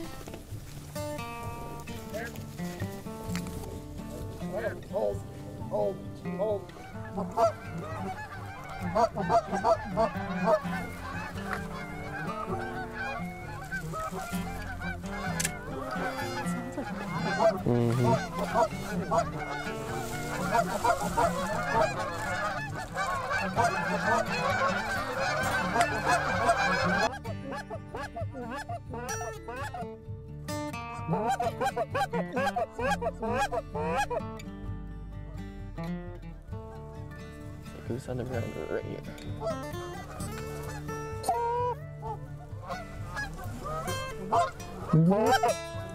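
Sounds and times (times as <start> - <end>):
geese honking in flight: 0.0 - 30.0, 31.0 - 34.4, 36.7 - 45.9.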